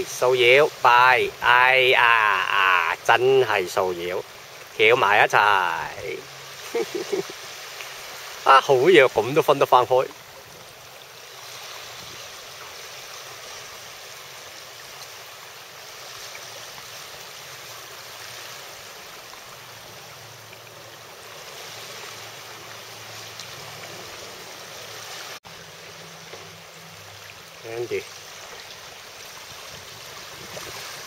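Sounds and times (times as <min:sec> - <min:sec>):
rushing water: 0:00.0 - 0:31.0
wind: 0:00.0 - 0:31.0.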